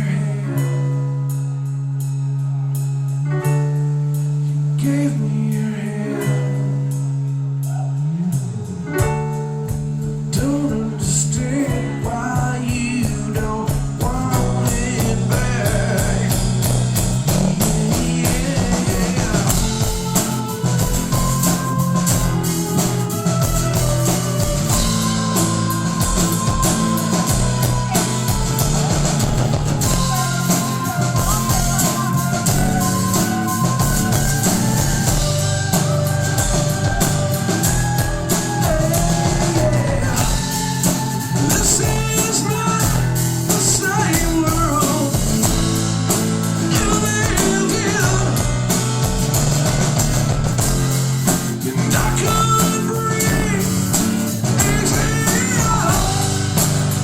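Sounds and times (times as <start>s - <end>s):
person singing: 0.0s - 7.0s, 7.6s - 48.9s, 51.4s - 57.0s
rock band playing live: 0.0s - 57.0s.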